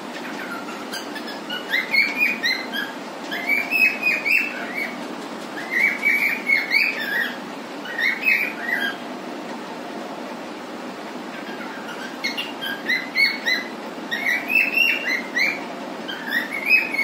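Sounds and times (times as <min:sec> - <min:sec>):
cockatiel whistling: 0:00.3 - 0:05.0, 0:05.6 - 0:09.0, 0:11.4 - 0:17.0.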